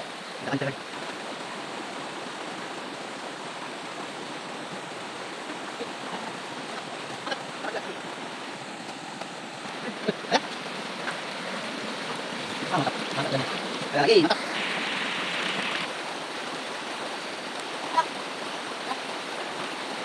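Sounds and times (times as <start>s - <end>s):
river water flowing over rocks: 0.0s - 20.0s.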